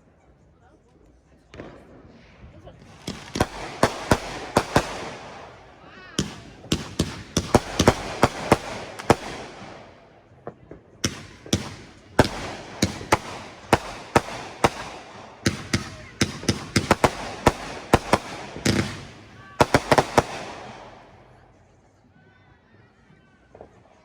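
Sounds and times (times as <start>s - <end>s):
fireworks cracking and banging: 1.5s - 21.4s.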